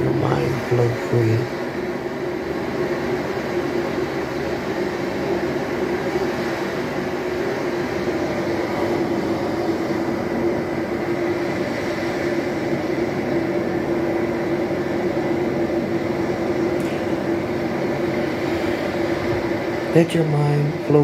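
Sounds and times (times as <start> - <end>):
electric fan humming: 0.0 - 21.0
ocean waves from tv: 0.0 - 21.0.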